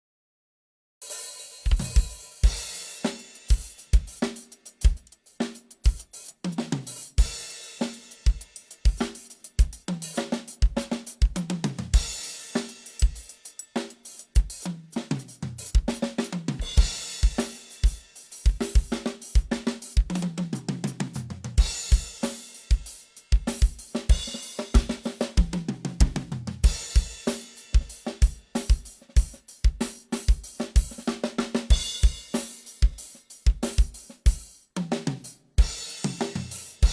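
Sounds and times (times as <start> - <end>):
drum fills: 1.0 - 36.9
snare and hi-hat: 1.0 - 36.9.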